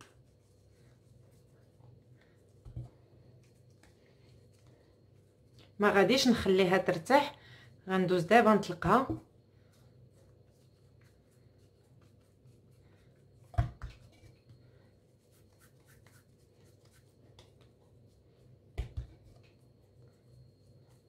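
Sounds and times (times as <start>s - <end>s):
hands rubbing dough: 0.0s - 7.0s, 8.2s - 21.0s.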